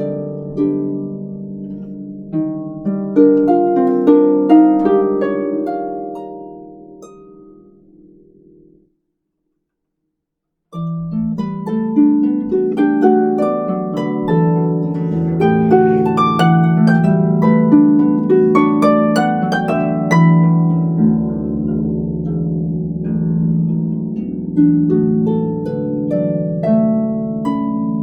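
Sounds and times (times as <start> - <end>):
harp playing plucked notes: 0.0 - 8.9, 10.7 - 28.0.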